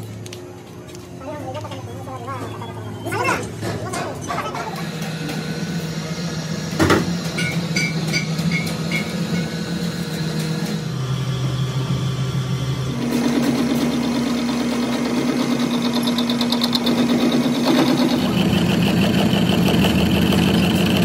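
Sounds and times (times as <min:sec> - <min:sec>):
metal lathe humming: 0:01.8 - 0:21.0.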